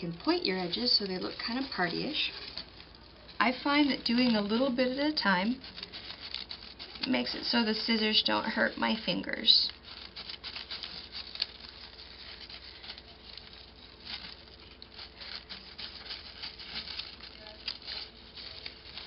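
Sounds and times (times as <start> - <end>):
scissors snipping tissue paper: 0.0 - 19.0.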